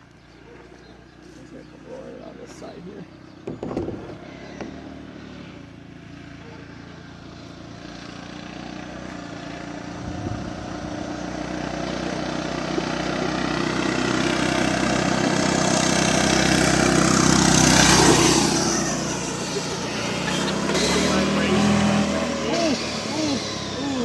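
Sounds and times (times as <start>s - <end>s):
riding lawnmower engine passing: 0.0s - 24.0s.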